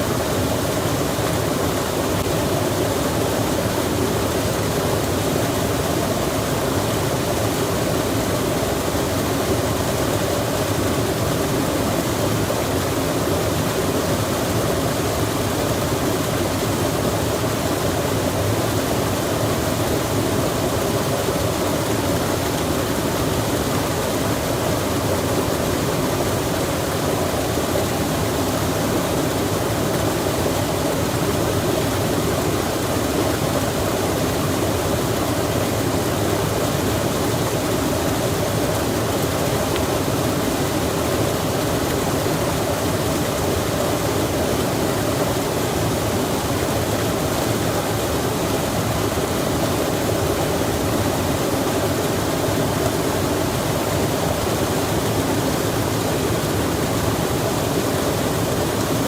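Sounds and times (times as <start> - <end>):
stream water rushing: 0.0 - 59.0
rain falling: 0.1 - 59.0.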